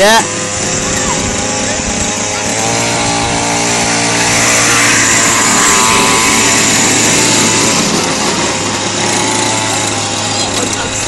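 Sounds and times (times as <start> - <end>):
small engine running hard: 0.0 - 11.0.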